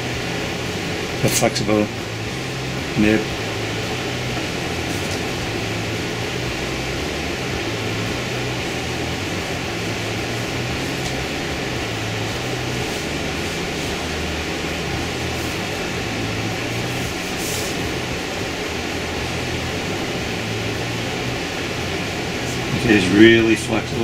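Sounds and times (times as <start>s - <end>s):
low machine hum with hiss: 0.0s - 24.0s.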